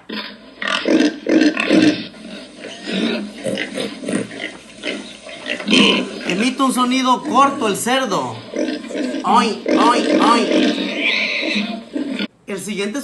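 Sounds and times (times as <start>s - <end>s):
pig grunting: 0.0s - 12.4s.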